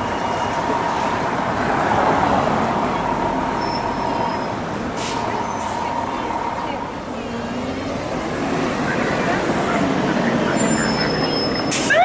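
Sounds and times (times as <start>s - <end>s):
city traffic noise: 0.0s - 12.0s
heavy road vehicle running: 0.0s - 12.0s.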